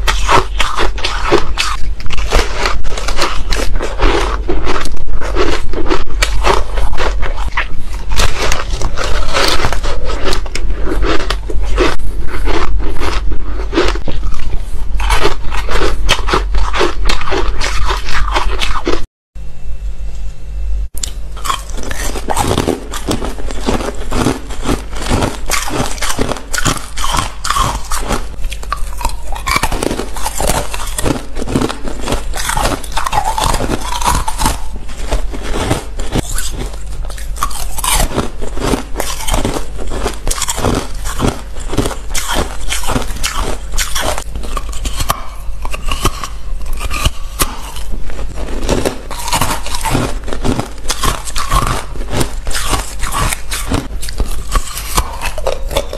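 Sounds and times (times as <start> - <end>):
ice crunching and chewing: 0.0 - 19.1, 21.0 - 55.9.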